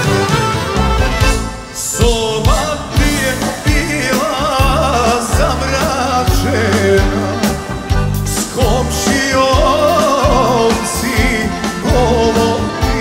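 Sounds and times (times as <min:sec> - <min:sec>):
folk band drum and bass beat: 0:00.0 - 0:13.0
man singing with vibrato: 0:01.4 - 0:13.0.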